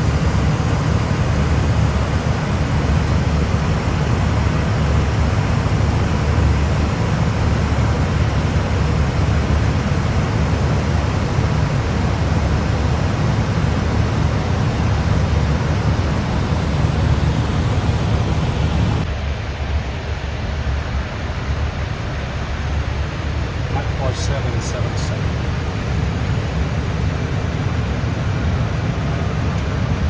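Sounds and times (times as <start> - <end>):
airflow rushing in cockpit: 0.0 - 30.0
engine and air-conditioning hum: 0.0 - 30.0.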